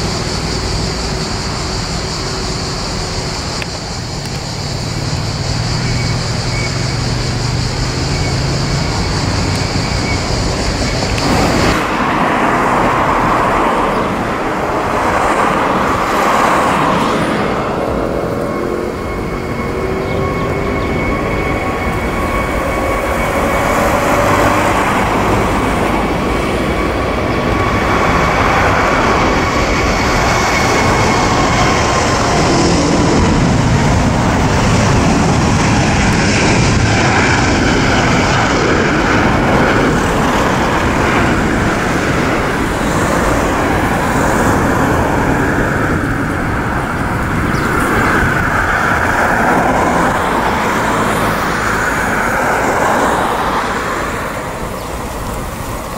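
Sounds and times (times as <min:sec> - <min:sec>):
high fan whine: 0:00.0 - 0:55.9
jet engine roar: 0:00.0 - 0:55.9.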